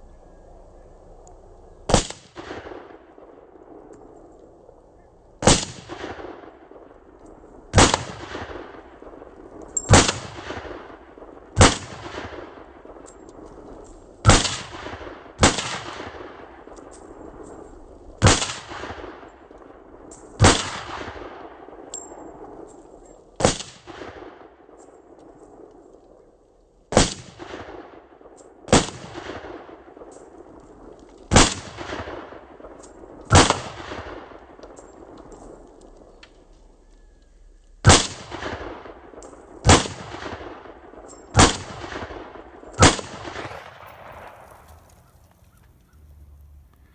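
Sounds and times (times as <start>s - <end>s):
rifle shots with echo: 1.9s - 35.7s, 37.8s - 46.1s.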